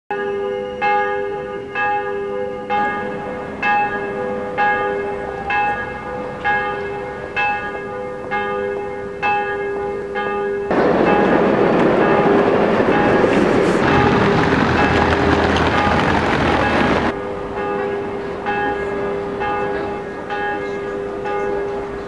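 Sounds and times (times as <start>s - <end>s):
church bell ringing: 0.1s - 22.0s
hum of bells: 0.1s - 22.0s.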